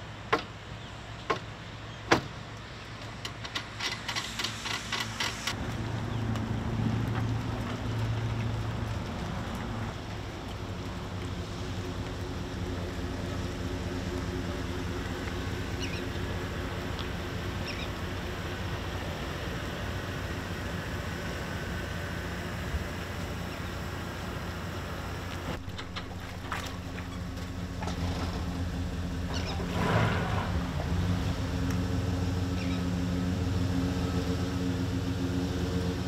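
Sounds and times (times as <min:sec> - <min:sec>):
vehicle engine idling: 0:04.5 - 0:36.0.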